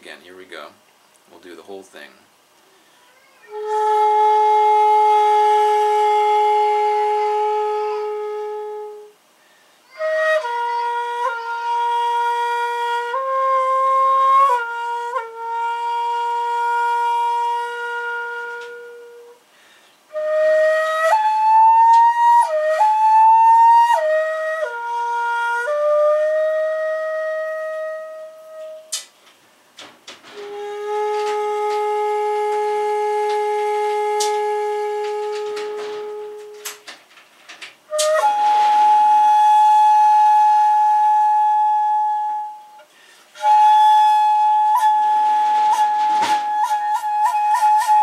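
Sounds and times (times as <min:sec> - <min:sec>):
bamboo flute playing: 0:03.4 - 0:29.2, 0:30.1 - 0:48.0.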